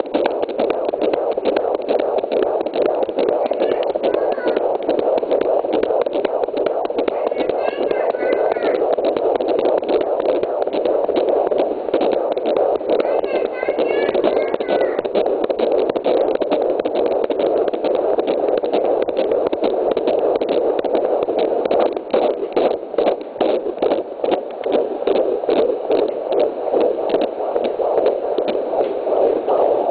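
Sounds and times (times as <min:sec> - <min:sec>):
fetal heartbeat on doppler: 0:00.0 - 0:29.9.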